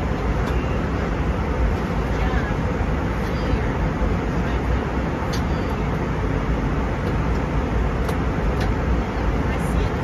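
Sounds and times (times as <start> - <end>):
airplane cabin engine roar: 0.0 - 10.0.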